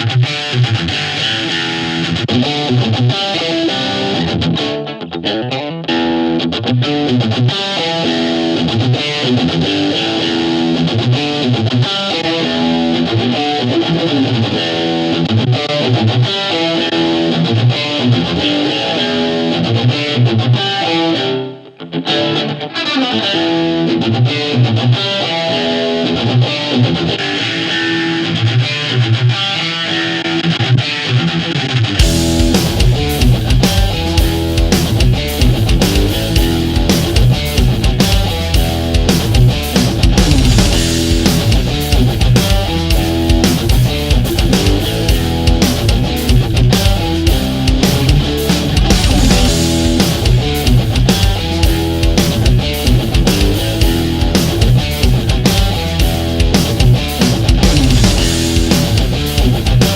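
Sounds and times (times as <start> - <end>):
electric guitar with modulation effects: 0.0 - 59.9.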